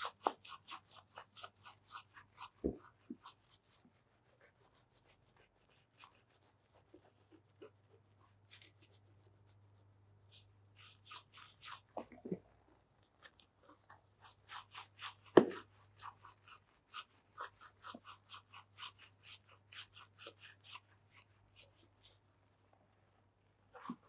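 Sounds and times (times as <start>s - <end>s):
fingers scrubbing lathered scalp: 0.0s - 22.3s.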